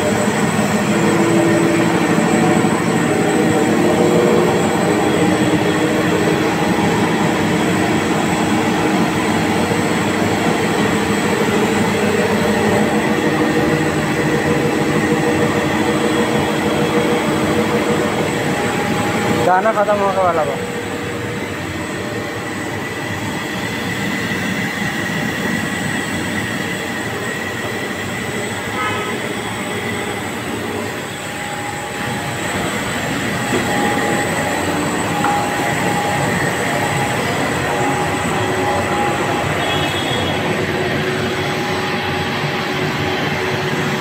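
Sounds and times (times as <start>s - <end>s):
faint machine whines: 0.0s - 44.0s.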